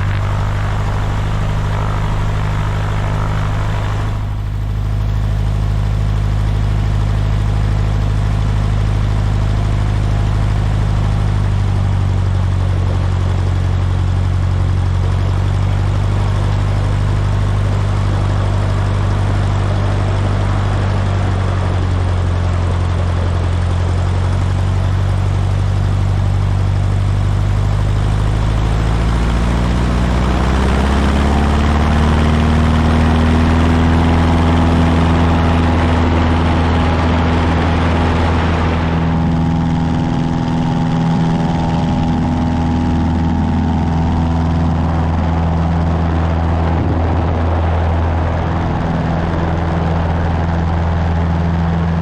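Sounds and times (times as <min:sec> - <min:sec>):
propeller plane engine running: 0:00.0 - 0:52.0.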